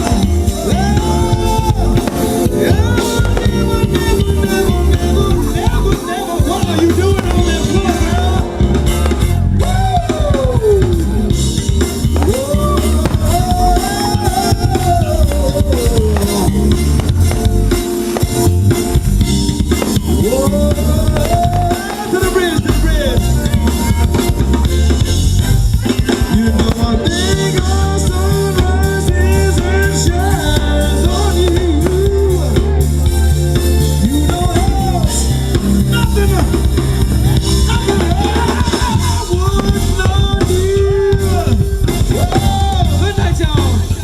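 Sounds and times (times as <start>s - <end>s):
drum kit beat: 0.0s - 44.0s
live band playing: 0.0s - 44.0s
sliding lead melody: 0.0s - 44.0s.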